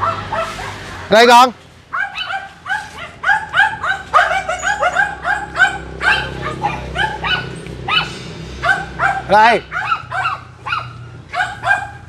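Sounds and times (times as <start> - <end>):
dog barking rapidly: 0.0 - 0.8, 1.9 - 12.0.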